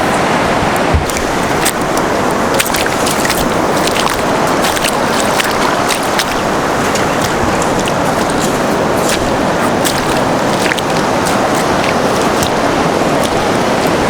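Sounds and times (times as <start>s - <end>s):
sea washing against stony shore: 0.0s - 14.0s.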